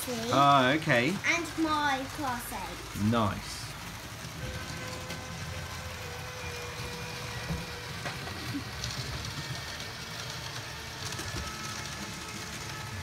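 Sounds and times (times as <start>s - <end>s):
model train motor hum: 0.0s - 13.0s
wheels rumbling on rails: 0.0s - 13.0s.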